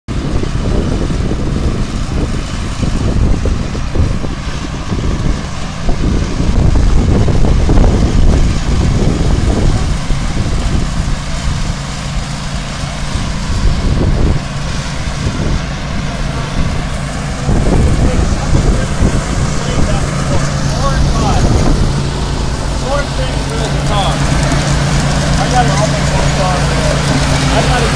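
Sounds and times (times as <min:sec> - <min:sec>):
truck and conveyor machinery running: 0:00.1 - 0:27.9.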